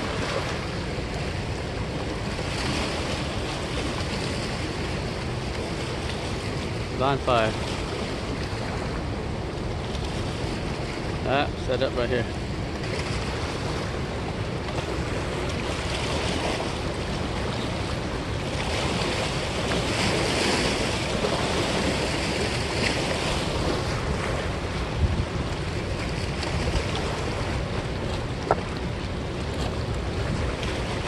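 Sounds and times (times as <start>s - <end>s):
river water lapping on rocks: 0.0s - 31.0s
wind rushing over microphone: 0.0s - 31.0s.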